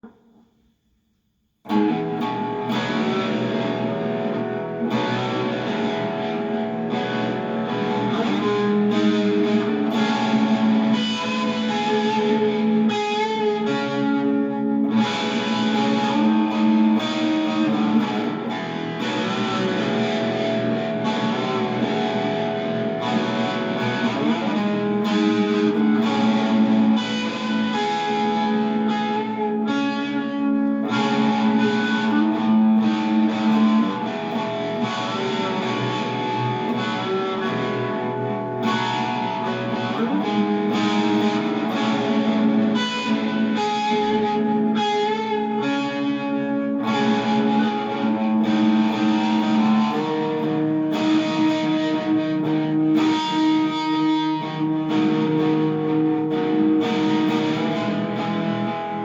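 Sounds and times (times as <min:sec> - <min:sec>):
electric guitar strumming chords: 0:01.6 - 0:59.0.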